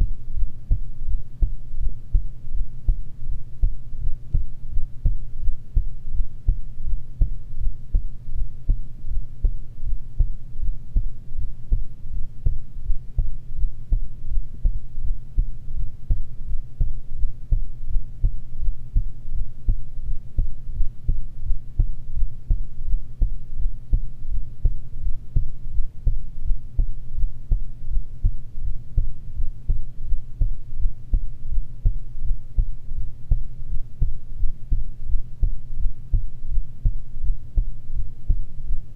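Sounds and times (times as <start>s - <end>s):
heartbeat thumps: 0.0s - 38.9s
steady low hum: 0.0s - 38.9s.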